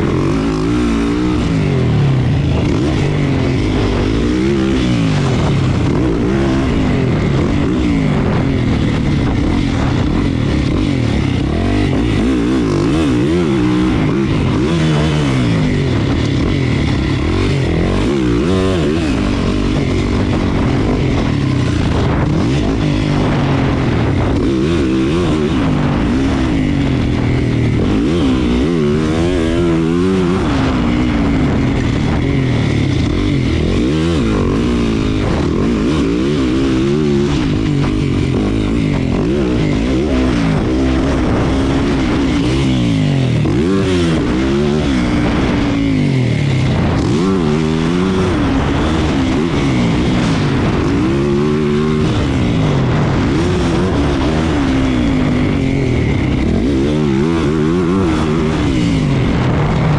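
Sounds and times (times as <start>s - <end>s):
motocross bike engine revving: 0.0s - 59.9s
wind and dirt hiss: 0.0s - 59.9s.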